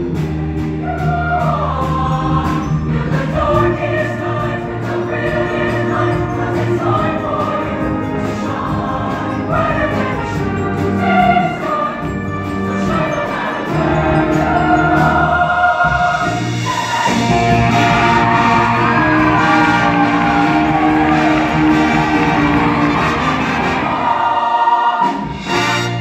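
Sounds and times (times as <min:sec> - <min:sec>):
choir singing pop song: 0:00.0 - 0:26.0
instrumental accompaniment: 0:00.0 - 0:26.0.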